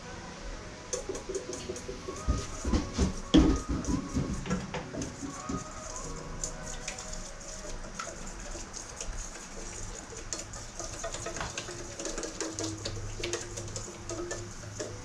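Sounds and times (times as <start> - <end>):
whisk scraping a metal bowl: 1.0 - 15.0.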